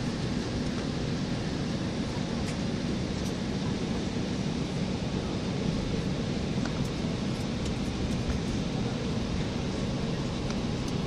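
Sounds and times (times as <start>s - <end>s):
jet engines idling in cabin: 0.0s - 11.0s.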